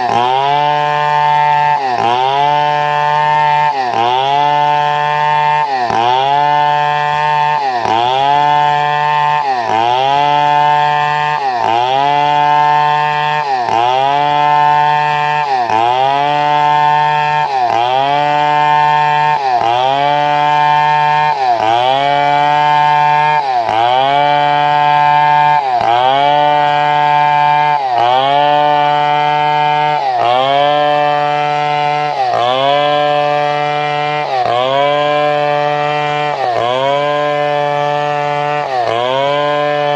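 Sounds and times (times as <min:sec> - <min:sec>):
chainsaw engine at high revs: 0:00.0 - 0:39.9.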